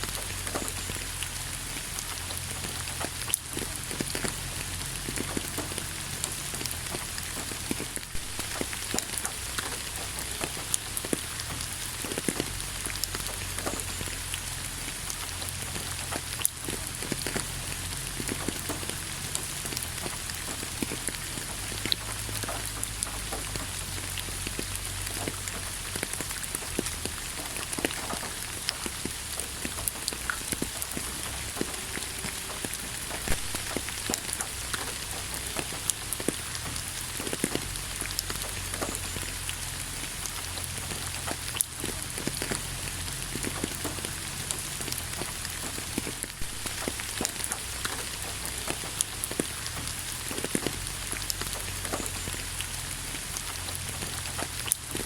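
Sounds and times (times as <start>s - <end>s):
raindrops tapping on a surface: 0.0s - 55.0s
steady rain: 0.0s - 55.0s.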